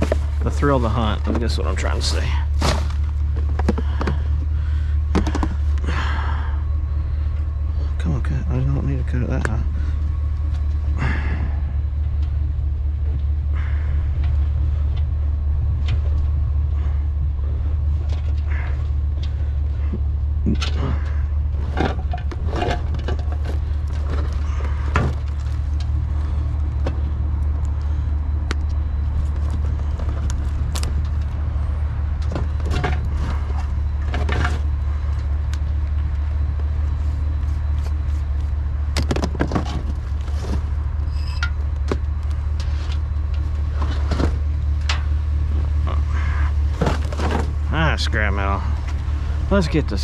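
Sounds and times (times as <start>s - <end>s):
vehicle engine idling: 0.0s - 50.0s.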